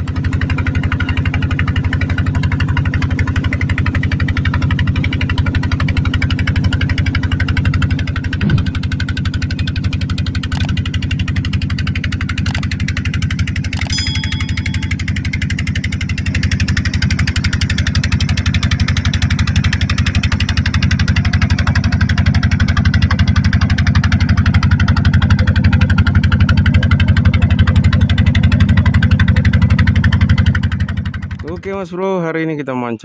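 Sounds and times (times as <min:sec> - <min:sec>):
boat diesel engine chugging: 0:00.0 - 0:33.0.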